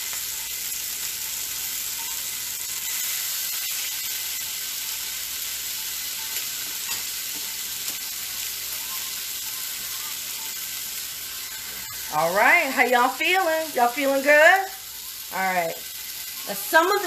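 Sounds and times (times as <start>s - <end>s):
meat sizzling on a griddle: 0.0s - 17.0s.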